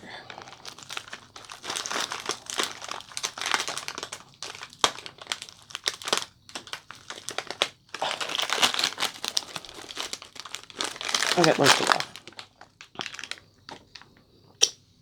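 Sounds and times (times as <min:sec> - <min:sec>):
plastic packaging crinkling: 0:00.0 - 0:14.1.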